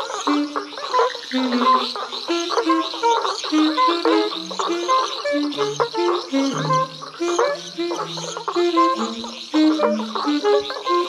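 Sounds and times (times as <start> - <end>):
insects chirring: 0.0 - 11.0
quick run of pitched notes: 1.3 - 11.0.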